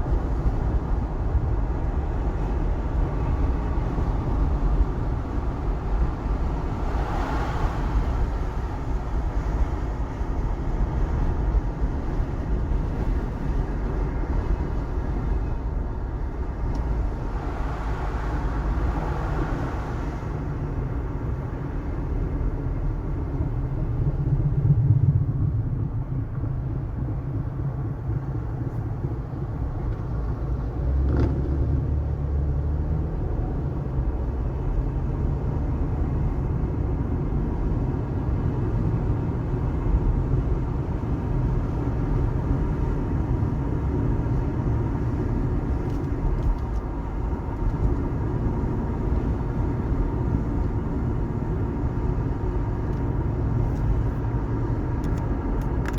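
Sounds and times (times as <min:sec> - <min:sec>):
tyres and engine rumble: 0:00.0 - 0:55.9.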